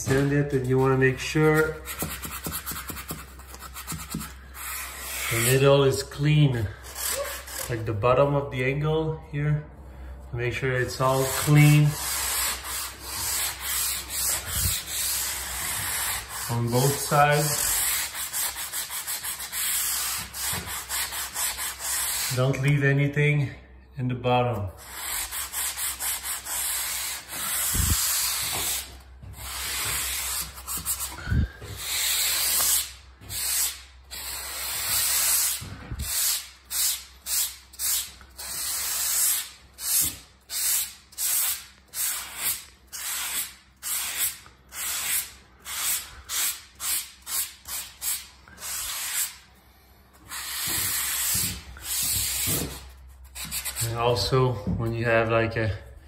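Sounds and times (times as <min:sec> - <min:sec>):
sanding block scratching drywall: 0:00.0 - 0:07.9, 0:10.8 - 0:22.6, 0:24.8 - 0:49.5, 0:50.1 - 0:54.4.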